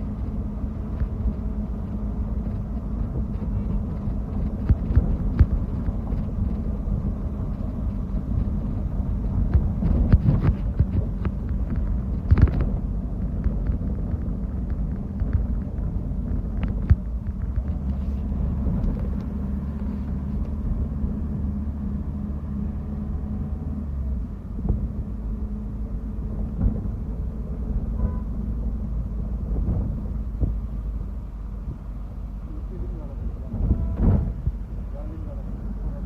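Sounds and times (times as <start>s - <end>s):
bus engine and road rumble: 0.0s - 36.0s.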